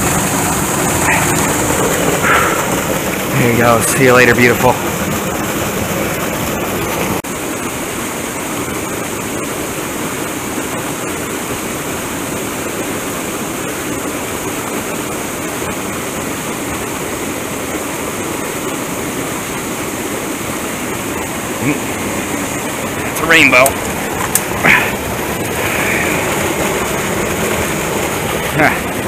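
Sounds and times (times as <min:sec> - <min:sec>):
small waterfall rushing: 0:00.0 - 0:29.0.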